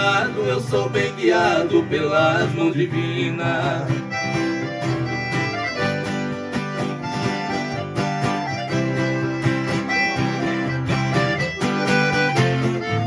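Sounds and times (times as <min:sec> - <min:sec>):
acoustic guitars plucking and strumming: 0:00.0 - 0:13.0.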